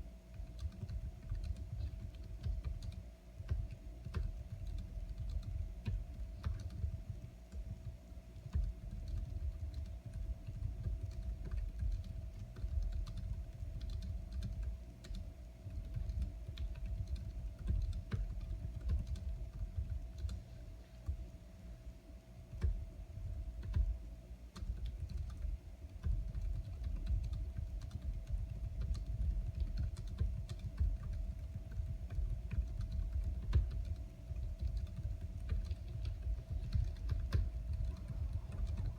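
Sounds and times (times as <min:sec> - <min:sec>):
faint steady hum: 0:00.0 - 0:38.9
fast typing on computer keyboard: 0:00.3 - 0:21.4, 0:22.4 - 0:38.9.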